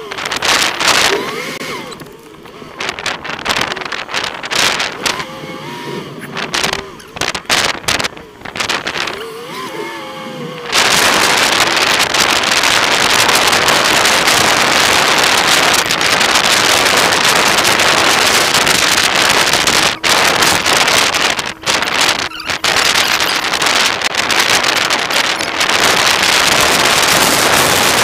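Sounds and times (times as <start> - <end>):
wavering gliding tones: 0.0 - 28.0
loud even rushing noise: 2.9 - 28.0.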